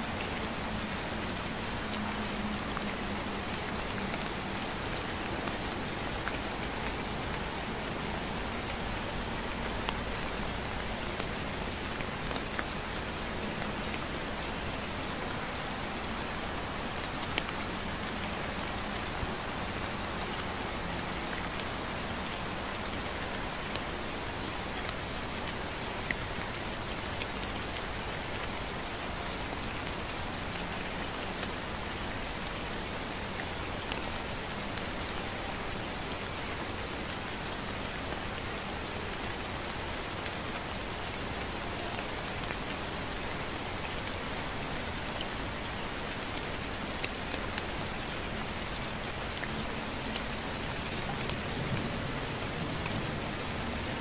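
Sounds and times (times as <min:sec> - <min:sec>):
gentle rain hiss: 0:00.0 - 0:54.0.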